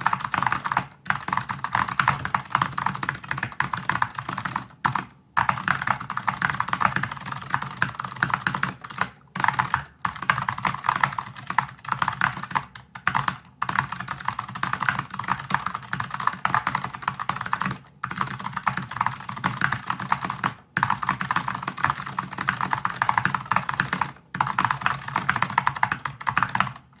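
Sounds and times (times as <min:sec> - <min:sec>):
fast typing on clicky keyboard: 0:00.0 - 0:27.0.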